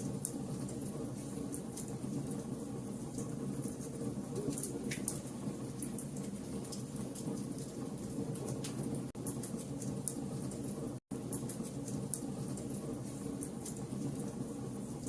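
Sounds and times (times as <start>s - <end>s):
fire burning: 0.0s - 15.0s.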